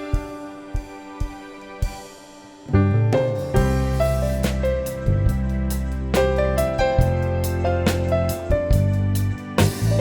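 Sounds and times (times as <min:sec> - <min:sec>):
piano melody over a steady beat: 0:00.0 - 0:10.0.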